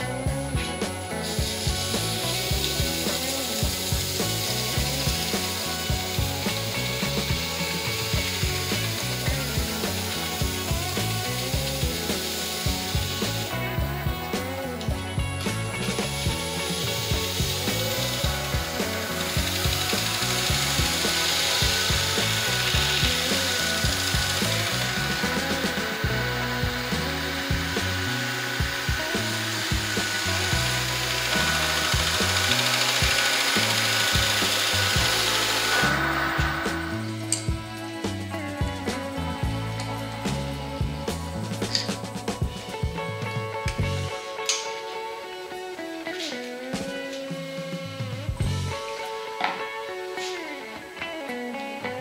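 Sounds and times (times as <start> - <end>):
background music with bass: 0.0 - 52.0.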